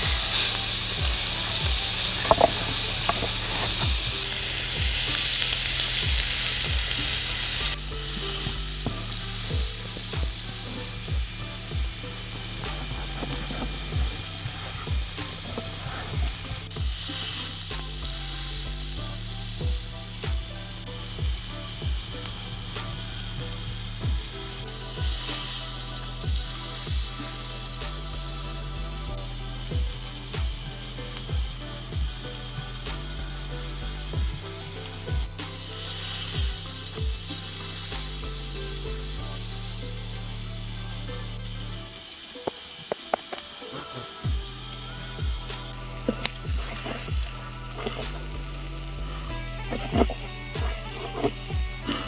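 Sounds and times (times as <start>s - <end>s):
background music with steady beat: 0.0s - 52.0s
meat sizzling over a fire: 0.0s - 52.0s.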